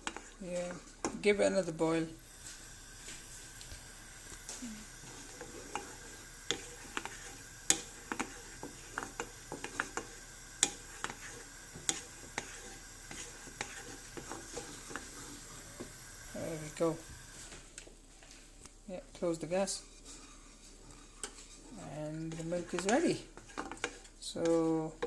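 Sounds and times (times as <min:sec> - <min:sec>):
spoon stirring in a pan: 0:00.0 - 0:01.7, 0:02.3 - 0:25.0.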